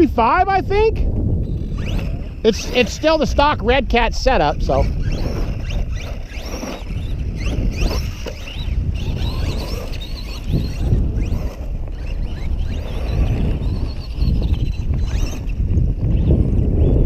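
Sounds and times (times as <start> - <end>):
electric motor whining: 0.0 - 17.0
steady low rumble: 0.0 - 17.0.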